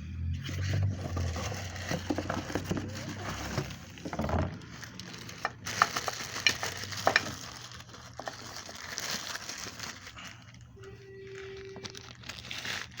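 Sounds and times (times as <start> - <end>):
rustling: 0.4 - 13.0.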